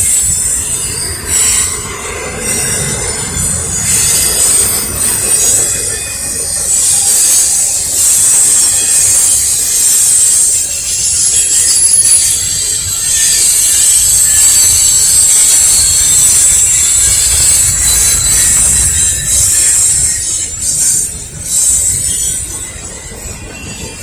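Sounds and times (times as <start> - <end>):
railcars rumbling: 0.0 - 24.0
shrill wheel squeal: 0.0 - 24.0.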